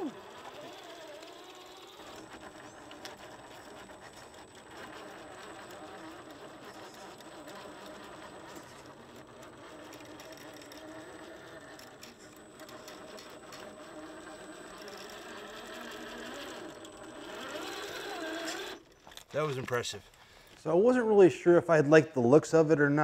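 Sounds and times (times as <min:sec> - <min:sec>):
electric motor whining: 0:00.0 - 0:19.3.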